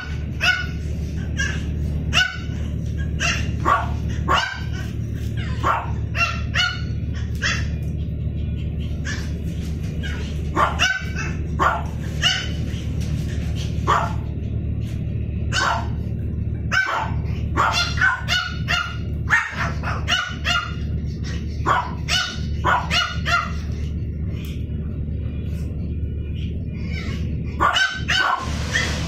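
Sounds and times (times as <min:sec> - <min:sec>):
dogs barking: 0:00.0 - 0:24.8, 0:26.3 - 0:29.0
steady low hum: 0:00.0 - 0:29.0.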